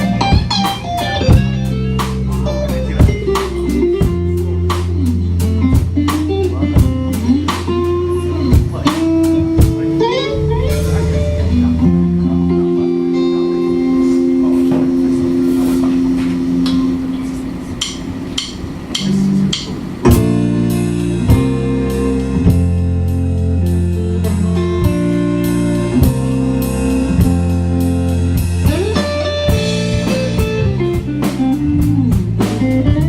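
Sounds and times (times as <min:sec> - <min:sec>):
bass guitar: 0:00.0 - 0:33.0
drum kit: 0:00.0 - 0:33.0
electric guitar with bent notes: 0:00.0 - 0:33.0.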